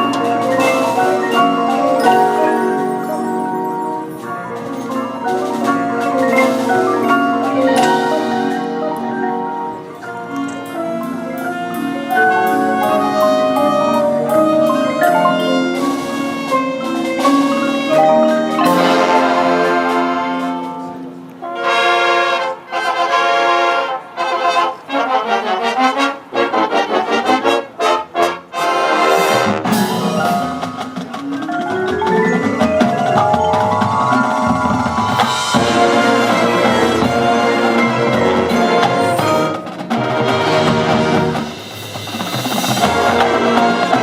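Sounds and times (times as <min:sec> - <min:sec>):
marching band brass: 0:00.0 - 0:44.0.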